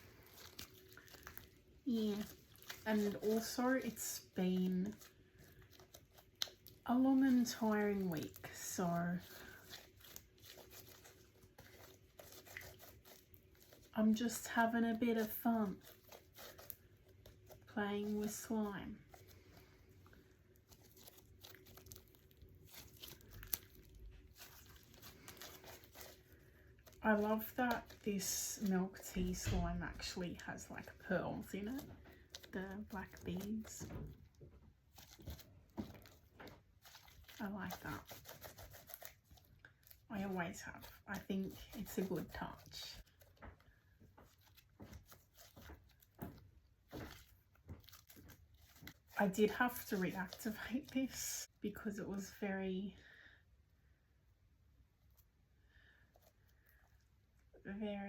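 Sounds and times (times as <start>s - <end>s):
slime clicking and crackling: 0.0s - 19.5s, 20.5s - 30.2s, 31.6s - 43.6s, 44.2s - 51.0s.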